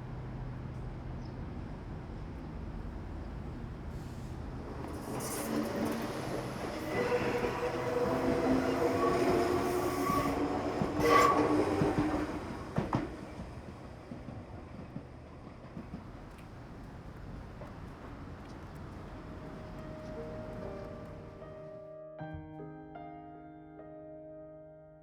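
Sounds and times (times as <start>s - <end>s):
train rumble: 0.0s - 21.6s.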